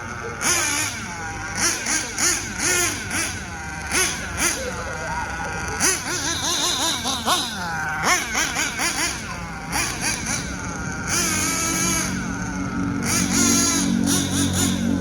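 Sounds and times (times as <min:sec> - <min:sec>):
model car nitro engine revving: 0:00.0 - 0:15.0.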